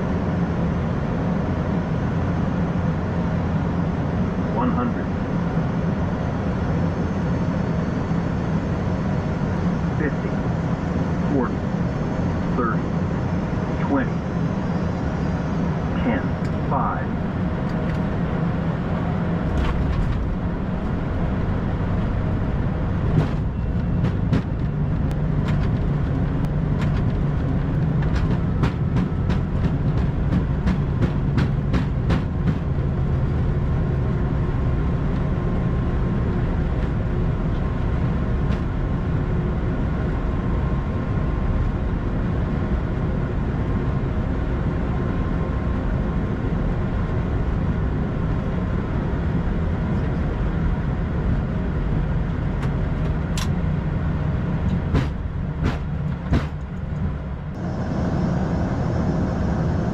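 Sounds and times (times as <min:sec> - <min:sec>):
airflow rush and engine hum: 0:00.0 - 0:59.9.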